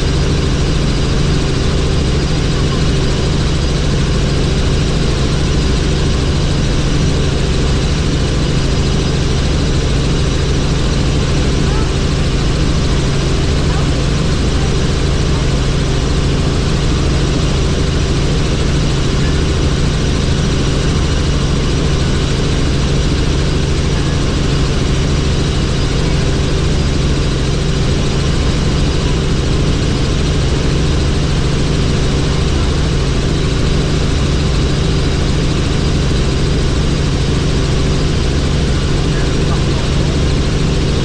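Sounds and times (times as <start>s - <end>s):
helicopter engine and rotor drone: 0.0s - 41.0s.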